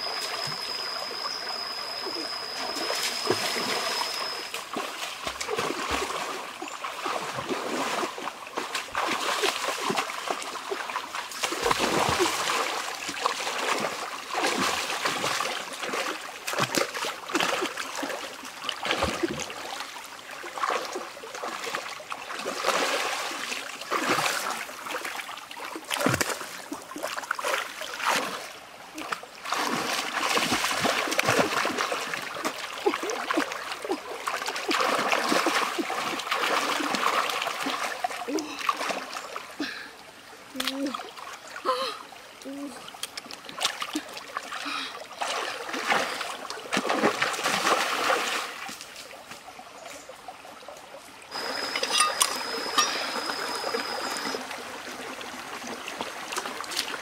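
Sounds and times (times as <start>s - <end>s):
running water trickling: 0.0s - 57.0s
splashing in a stream: 0.0s - 57.0s.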